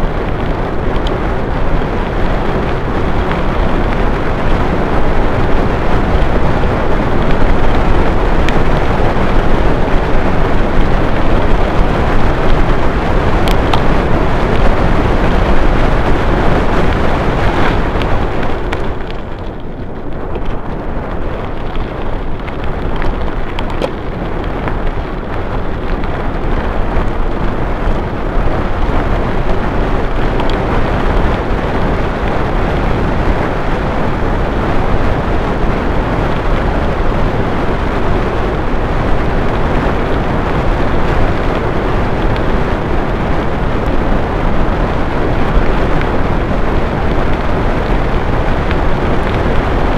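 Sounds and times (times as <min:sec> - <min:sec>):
bicycle tyre rumble: 0:00.0 - 0:49.9
wind buffeting microphone: 0:00.0 - 0:49.9.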